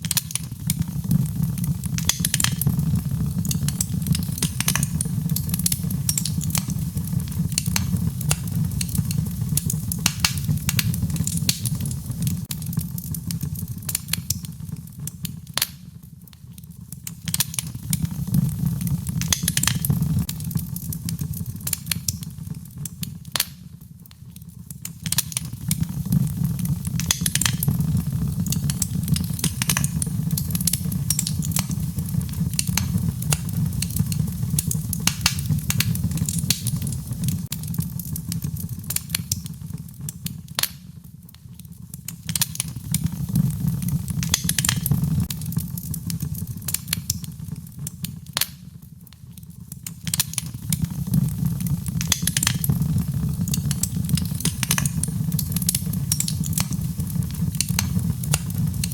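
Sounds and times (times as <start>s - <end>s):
fireplace fire crackling: 0.0s - 58.9s
low rumble of flames: 0.0s - 58.9s.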